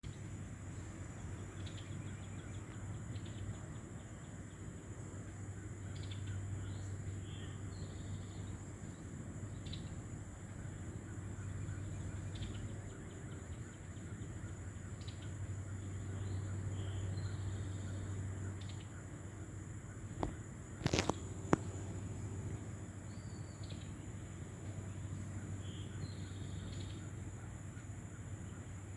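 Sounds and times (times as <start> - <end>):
small birds chirping: 0.0 - 28.9
steady low hum: 0.0 - 28.9.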